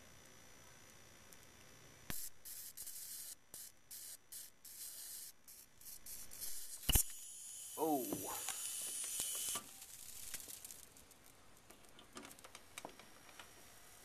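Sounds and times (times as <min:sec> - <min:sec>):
sharp electric snap: 0:00.2 - 0:13.6
high-voltage discharge hissing: 0:02.1 - 0:14.0.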